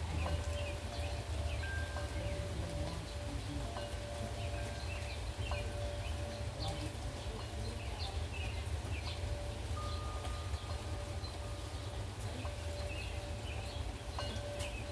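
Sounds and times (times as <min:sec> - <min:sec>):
bird chirps: 0:00.0 - 0:14.9
rain hiss: 0:00.0 - 0:14.9
wind chimes ringing: 0:00.0 - 0:14.9.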